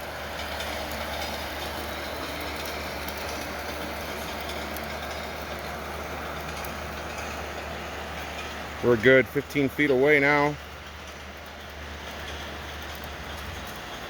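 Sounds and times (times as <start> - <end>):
recorded freight train rolling: 0.0 - 14.0.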